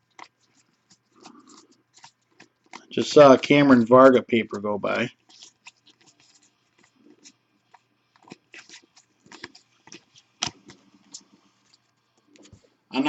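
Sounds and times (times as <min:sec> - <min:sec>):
cards flipped through by hand: 0:00.1 - 0:03.4, 0:04.5 - 0:12.6.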